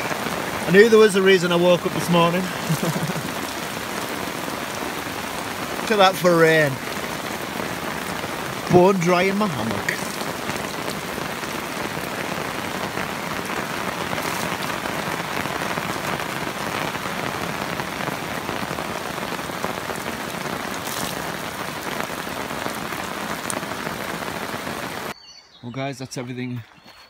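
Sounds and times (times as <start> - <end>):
louder single raindrop hits: 0.0 - 25.1
heavy rain hiss: 0.0 - 25.2.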